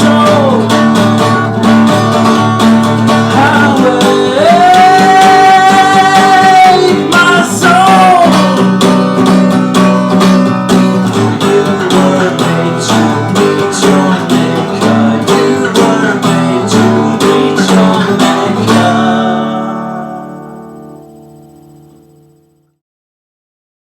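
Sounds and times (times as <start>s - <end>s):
acoustic guitar strumming: 0.0s - 22.8s.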